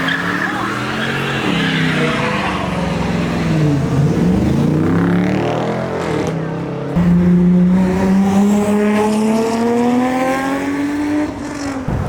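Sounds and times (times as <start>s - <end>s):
car engine accelerating hard: 0.2s - 12.0s.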